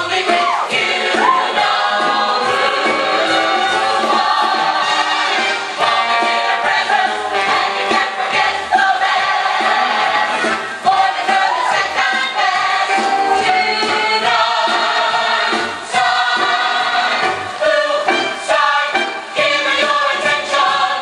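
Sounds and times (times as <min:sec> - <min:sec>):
group of voices singing: 0:00.0 - 0:21.0
musical accompaniment: 0:00.0 - 0:21.0.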